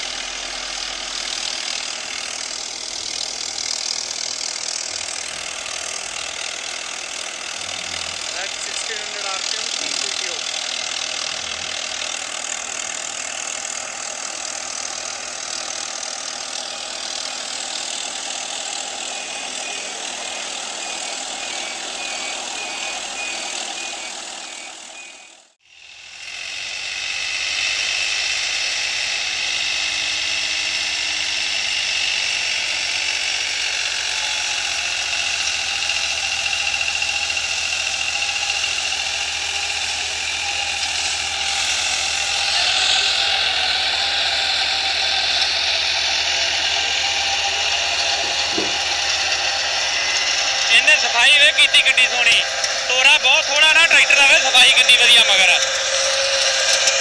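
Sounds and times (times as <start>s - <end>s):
seeder rotor working through stubble: 0.0s - 57.0s
tractor engine working under load: 0.0s - 57.0s.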